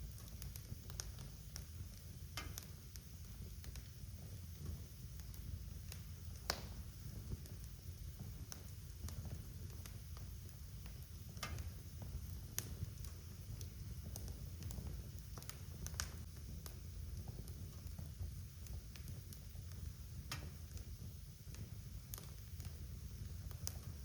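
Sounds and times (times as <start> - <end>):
fire crackling and popping: 0.0 - 24.0
wood fire burning: 0.0 - 24.0.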